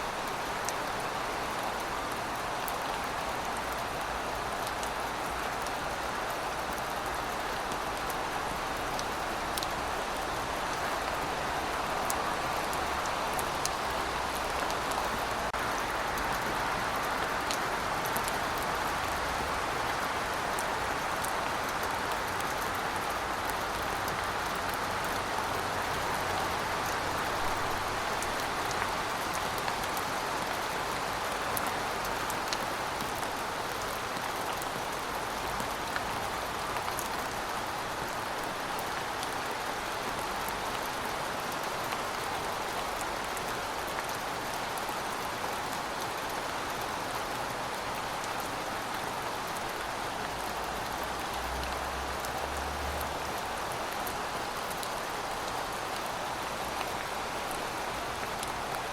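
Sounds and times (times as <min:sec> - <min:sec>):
hiss of rain: 0:00.0 - 0:58.9
raindrops ticking on a surface: 0:00.1 - 0:58.9.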